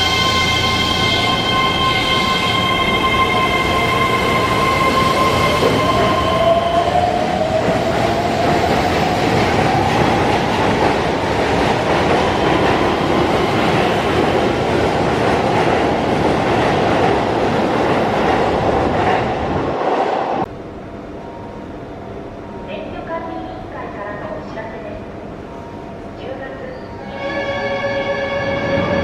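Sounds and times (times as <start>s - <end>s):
electric train rumbling: 0.0s - 29.0s.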